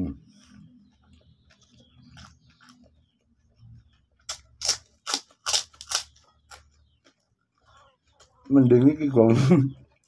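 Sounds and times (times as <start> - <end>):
crackers crunching: 0.4 - 8.9.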